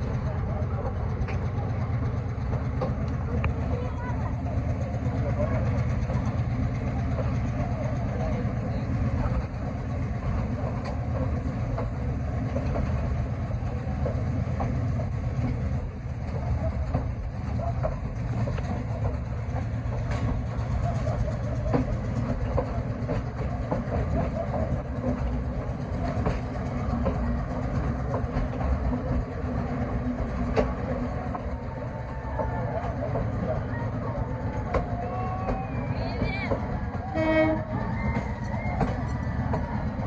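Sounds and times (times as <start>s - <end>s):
train rumbling across bridge: 0.0s - 40.0s
wheels clicking and knocking: 0.0s - 40.0s.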